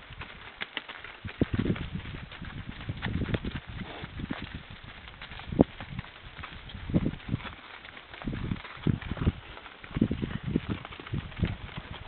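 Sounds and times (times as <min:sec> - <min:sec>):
cattle hoofbeats: 0:00.0 - 0:12.0.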